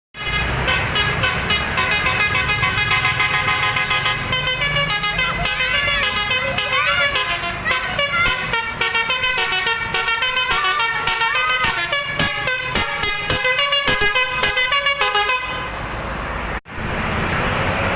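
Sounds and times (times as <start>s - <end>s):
bus horn playing melody: 0.2s - 15.8s.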